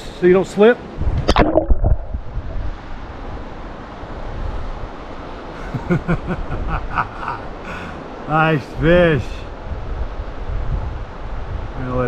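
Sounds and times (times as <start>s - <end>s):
wind rumble on microphone: 0.8s - 7.2s, 8.7s - 12.0s.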